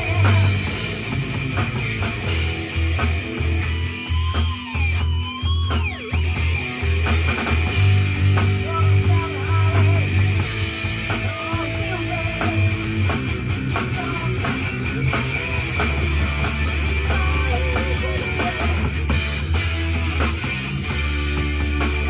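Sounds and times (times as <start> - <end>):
rock drum kit: 0.0 - 22.0
rock track with guitar and bass: 0.0 - 22.0.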